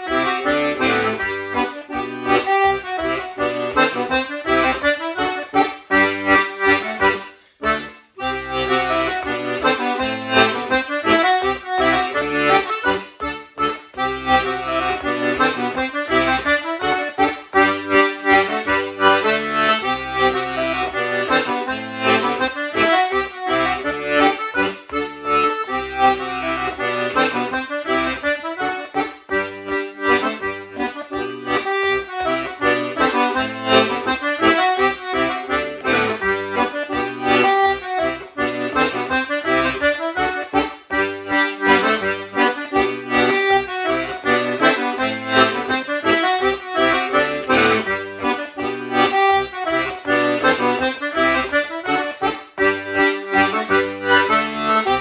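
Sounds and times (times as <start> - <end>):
accordion bass notes: 0.0 - 55.0
button accordion melody: 0.0 - 55.0.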